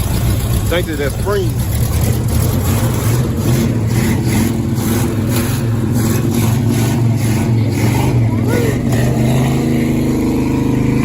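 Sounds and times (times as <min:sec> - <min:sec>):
car engine idling with lope: 0:00.0 - 0:11.0.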